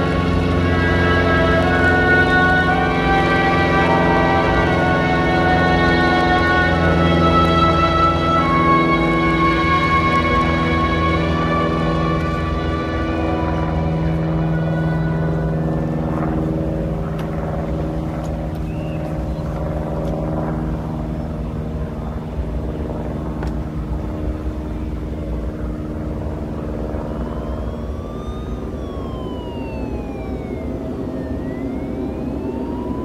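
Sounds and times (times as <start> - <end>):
engine drone: 0.0 - 33.0
siren wailing: 0.0 - 33.0.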